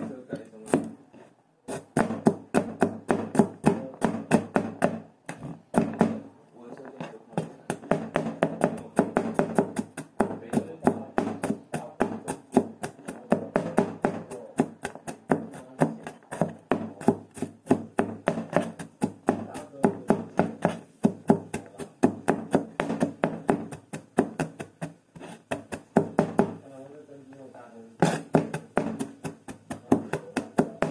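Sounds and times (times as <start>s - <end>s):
knife chopping on cutting board: 0.6s - 1.0s, 1.7s - 6.3s, 7.3s - 26.6s, 28.0s - 30.9s.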